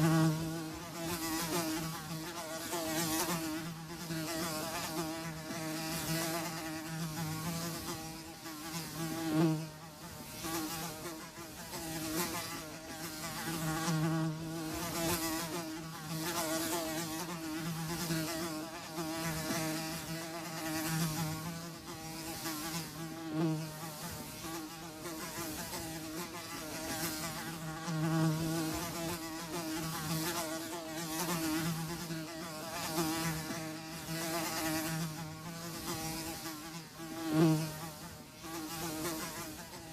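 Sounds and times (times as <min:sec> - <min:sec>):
flies buzzing: 0:00.0 - 0:39.9.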